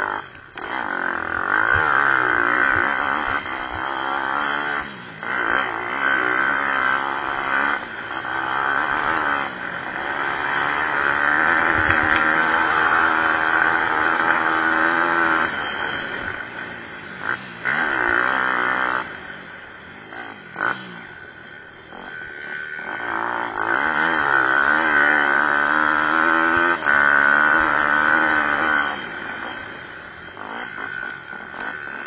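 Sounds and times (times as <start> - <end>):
pit bike engines revving: 0.0 - 32.0.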